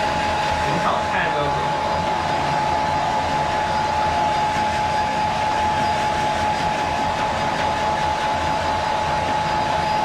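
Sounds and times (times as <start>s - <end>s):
blow dryer running: 0.0s - 10.0s.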